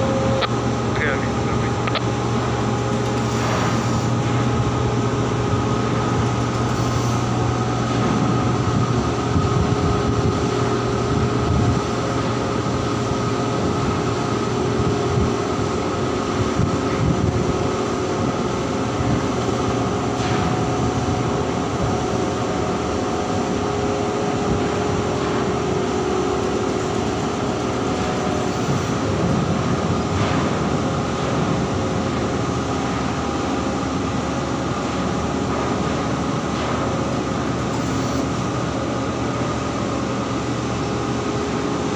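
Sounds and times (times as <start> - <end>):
constant machinery hums: 0.0 - 41.9
ship machinery drone: 0.0 - 41.9.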